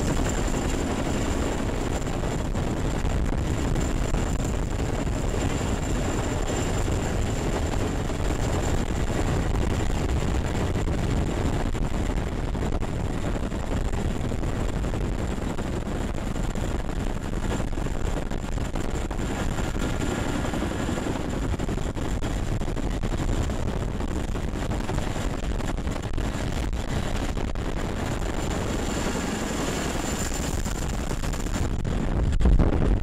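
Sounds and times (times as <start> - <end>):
helicopter rotor roar: 0.0 - 33.0.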